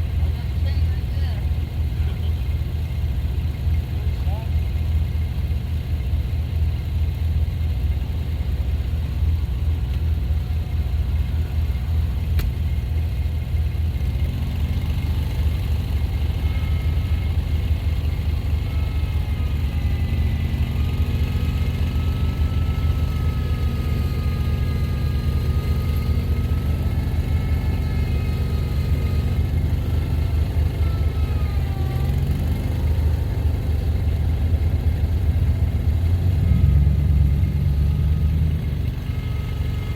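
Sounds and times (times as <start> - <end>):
vehicle engine plowing snow: 0.0 - 39.9.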